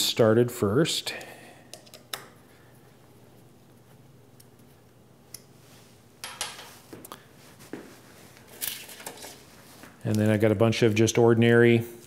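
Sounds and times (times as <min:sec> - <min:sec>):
workshop room tone: 0:00.0 - 0:12.0.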